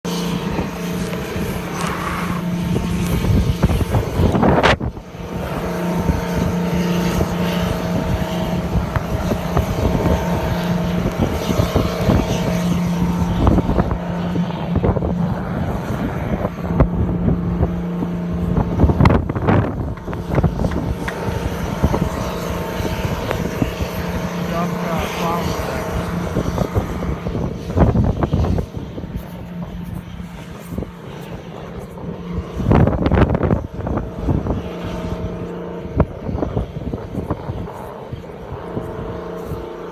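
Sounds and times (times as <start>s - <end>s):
engine hum: 0.0s - 39.9s
wind buffeting microphone: 0.0s - 39.9s.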